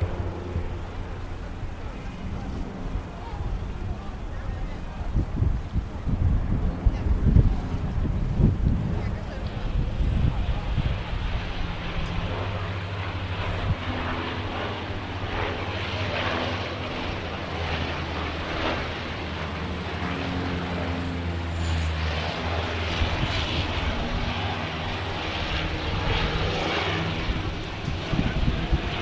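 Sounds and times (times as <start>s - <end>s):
propeller engines droning overhead: 0.0s - 29.0s.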